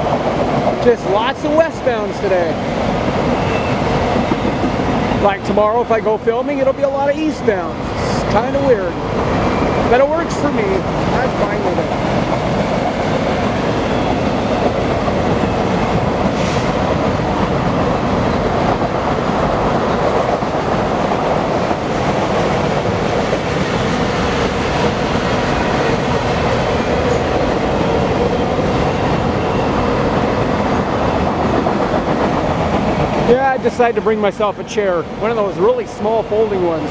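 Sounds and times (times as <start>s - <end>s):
train wheels on rails: 0.0s - 36.9s.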